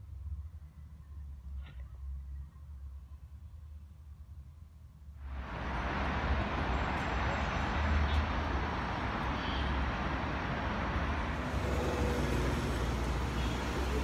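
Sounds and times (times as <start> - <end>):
road traffic hiss and rumble: 0.0 - 14.0.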